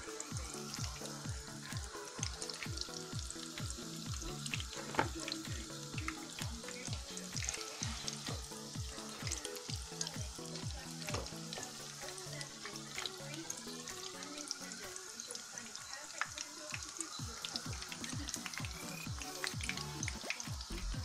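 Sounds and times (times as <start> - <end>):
background music with drum beat: 0.0 - 13.2, 17.2 - 21.0
oil sizzling and crackling: 0.0 - 21.0.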